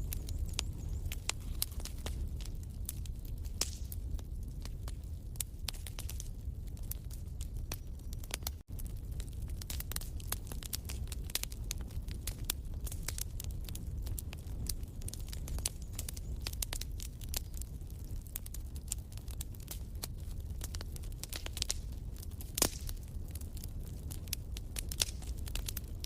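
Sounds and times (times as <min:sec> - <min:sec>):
low rumble of flames: 0:00.0 - 0:26.0
sharp snaps and pops: 0:00.0 - 0:26.0
wood fire crackling: 0:00.0 - 0:26.0.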